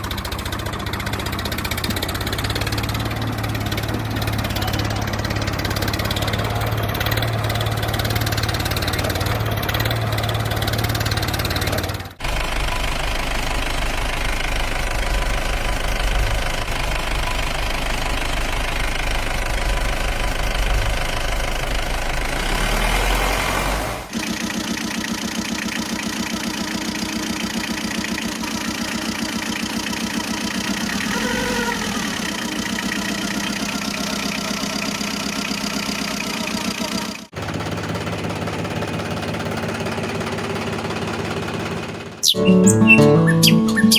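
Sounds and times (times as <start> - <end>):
engine running steadily: 0.0 - 42.2.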